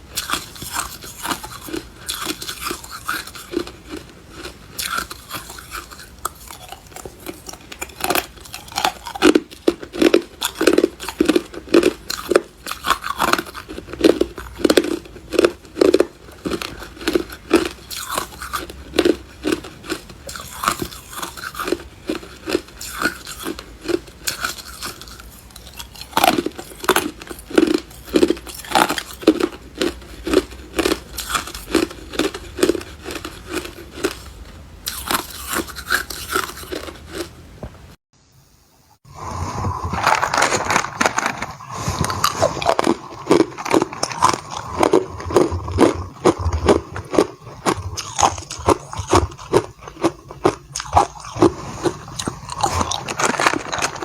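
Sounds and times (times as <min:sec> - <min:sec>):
ice crunching being chewed: 0:00.1 - 0:37.3, 0:39.6 - 0:54.0.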